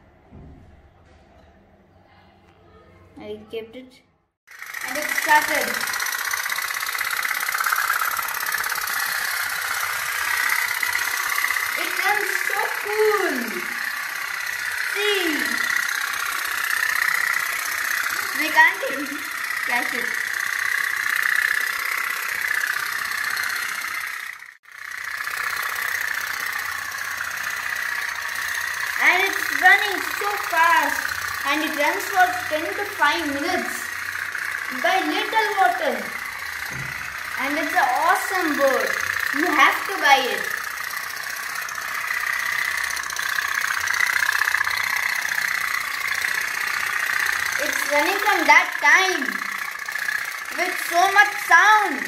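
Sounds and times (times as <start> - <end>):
toy steamboat putter: 4.5 - 52.0.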